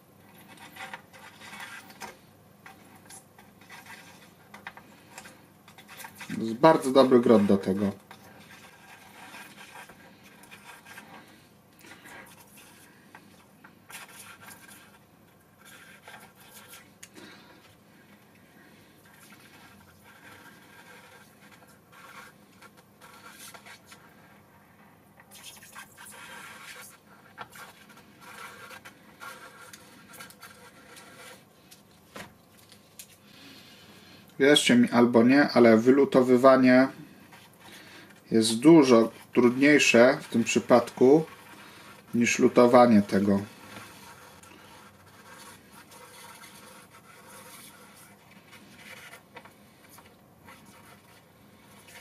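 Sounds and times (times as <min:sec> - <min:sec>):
soldering iron scraping and crackling: 0:00.0 - 0:52.0.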